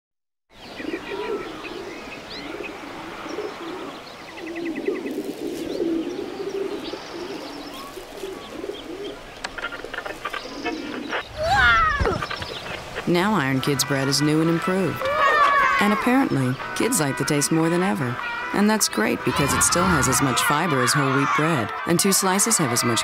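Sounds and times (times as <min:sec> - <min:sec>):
small birds chirping: 0:00.5 - 0:23.0
pigeons cooing: 0:00.6 - 0:23.0.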